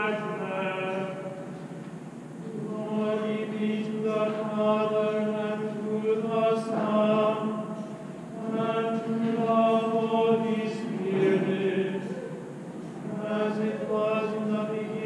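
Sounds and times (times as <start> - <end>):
men singing plainchant: 0.0 - 1.5, 2.5 - 15.0.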